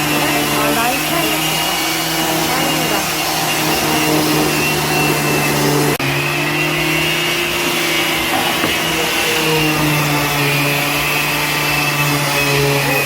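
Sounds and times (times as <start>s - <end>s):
woodworking power tool humming: 0.0s - 13.0s.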